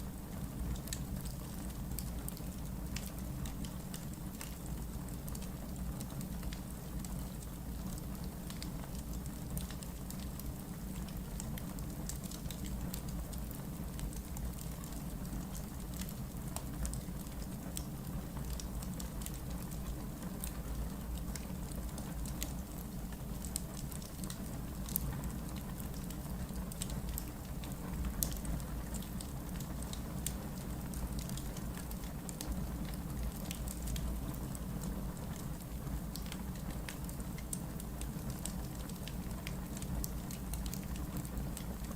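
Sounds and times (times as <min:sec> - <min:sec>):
fire rumbling and hissing: 0:00.0 - 0:41.9
crackles and pops of burning logs: 0:00.6 - 0:41.9.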